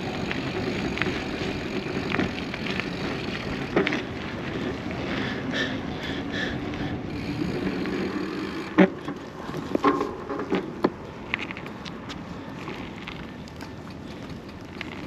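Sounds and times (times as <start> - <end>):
road traffic: 0.0 - 15.0
wind: 0.0 - 15.0.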